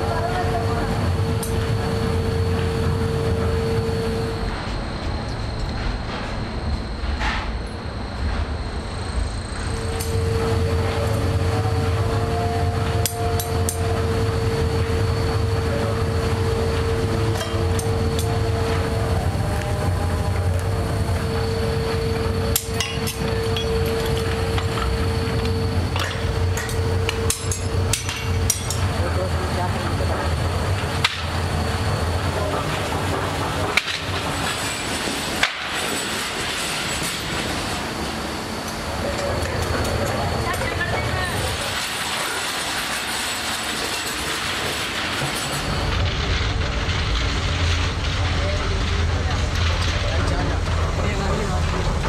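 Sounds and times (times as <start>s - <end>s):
factory workshop noise: 0.0s - 52.0s
foundry machinery drone: 0.0s - 52.0s.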